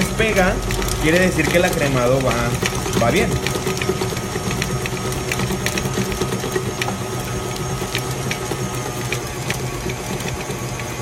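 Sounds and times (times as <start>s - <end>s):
stand mixer motor humming: 0.0s - 11.0s.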